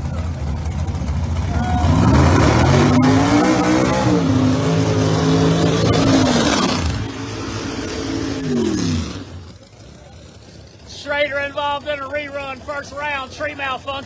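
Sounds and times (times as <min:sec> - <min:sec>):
drag racing cars accelerating: 0:00.0 - 0:14.0.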